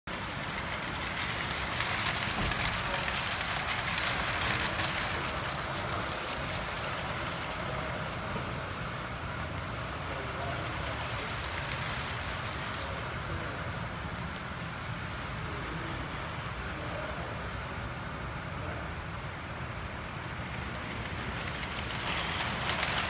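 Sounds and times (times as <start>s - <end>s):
toy trains rattling on track: 0.1s - 23.0s.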